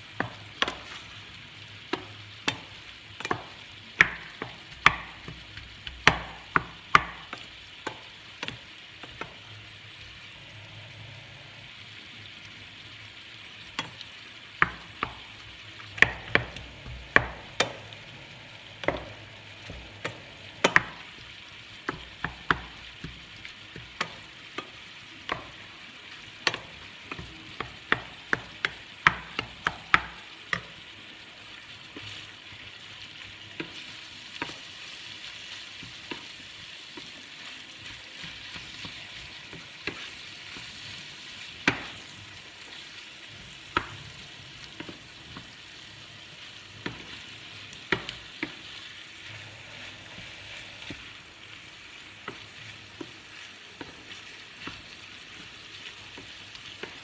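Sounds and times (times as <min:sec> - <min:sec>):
meat sizzling in pans: 0:00.0 - 0:57.0.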